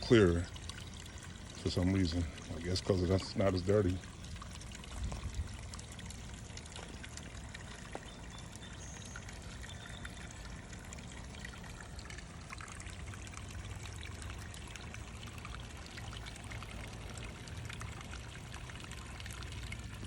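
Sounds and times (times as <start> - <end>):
small waterfall into pond: 0.0 - 20.0.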